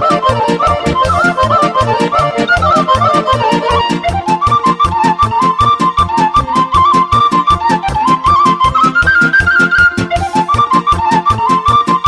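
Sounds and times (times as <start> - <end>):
band dance accompaniment: 0.0 - 12.0
wooden flute melody: 0.0 - 12.0.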